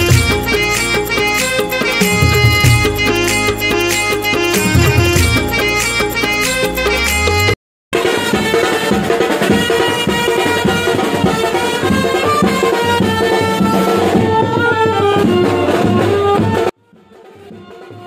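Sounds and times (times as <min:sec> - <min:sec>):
trumpets and clarinet melody: 0:00.0 - 0:16.0.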